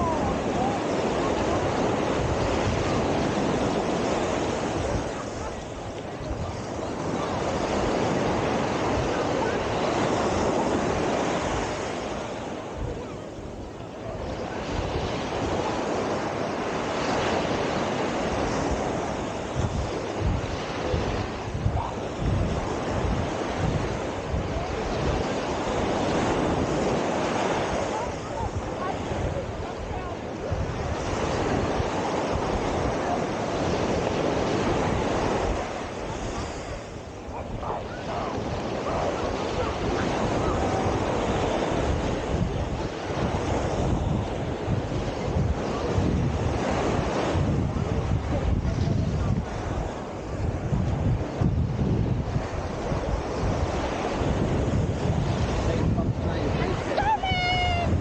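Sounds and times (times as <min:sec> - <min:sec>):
surf washing on sandy beach: 0:00.0 - 0:58.0
wind rumbling on microphone: 0:00.0 - 0:58.0.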